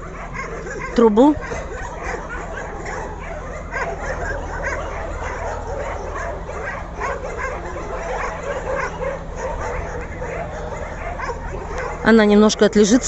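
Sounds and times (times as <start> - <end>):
many dogs barking and yipping: 0.0 - 13.0.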